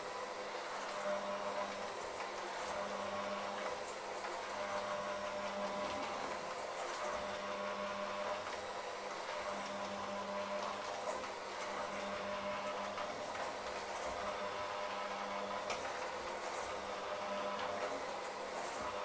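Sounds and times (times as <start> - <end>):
electric hand mixer running: 0.0 - 19.0.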